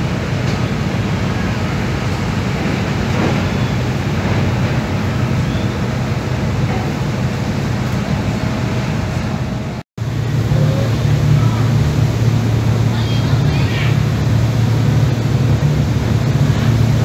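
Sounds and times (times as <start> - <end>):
ferry engines droning: 0.0 - 17.0.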